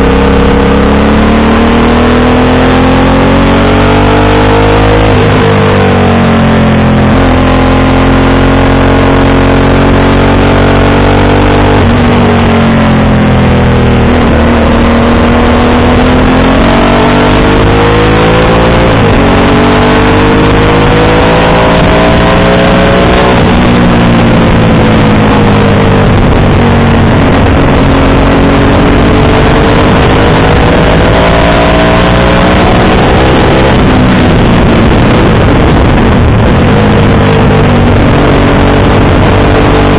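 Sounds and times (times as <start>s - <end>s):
constant rushing noise: 0.0s - 4.0s, 4.8s - 39.9s
motorcycle engine accelerating: 0.0s - 39.9s.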